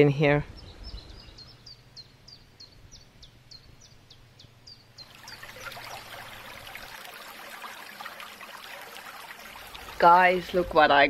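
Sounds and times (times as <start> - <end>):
songbird chirping: 0.0 - 11.0
stream trickling and babbling: 1.0 - 11.0.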